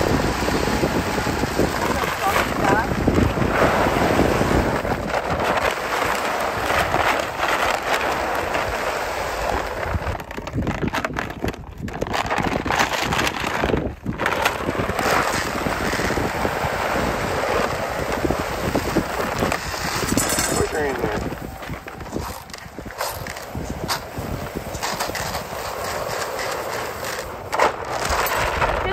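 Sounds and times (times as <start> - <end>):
corn kernels pouring: 0.0 - 10.7, 11.9 - 28.9.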